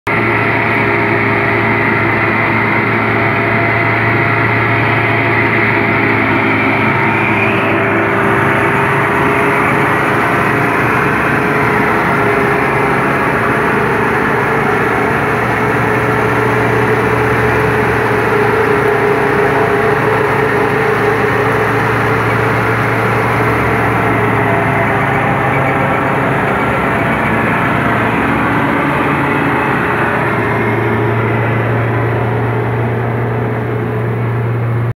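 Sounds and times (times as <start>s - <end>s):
high mechanical whine: 0.1s - 34.9s
tractor and chopper mechanical drone: 0.1s - 34.9s.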